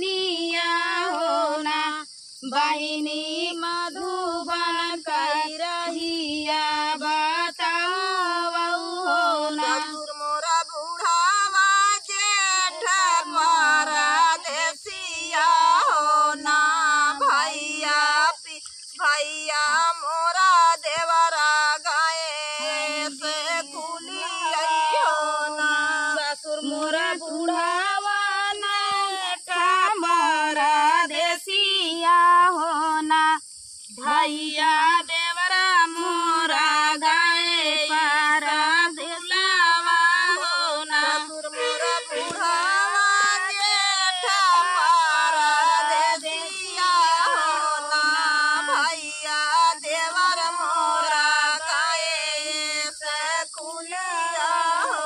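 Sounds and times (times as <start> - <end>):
women singing folk song: 0.0 - 55.0.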